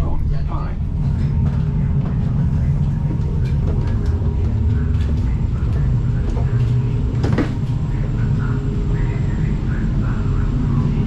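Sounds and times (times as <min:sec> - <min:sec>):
train interior hum and rumble: 0:00.0 - 0:11.0.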